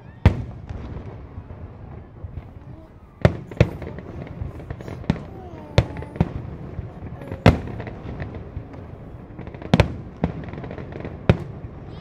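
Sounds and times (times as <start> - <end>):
fireworks bangs: 0.0 - 12.0
fireworks rumble: 0.0 - 12.0.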